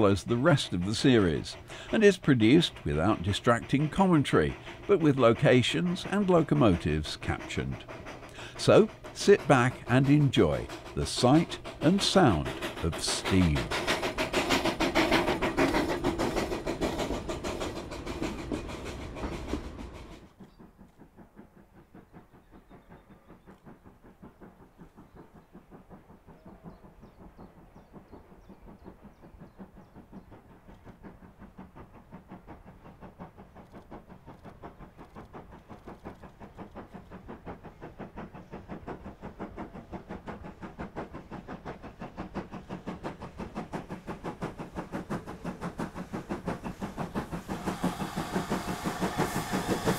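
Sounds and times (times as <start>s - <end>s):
locomotive exhaust beat: 0.0s - 49.9s
steam locomotive working: 0.0s - 49.9s.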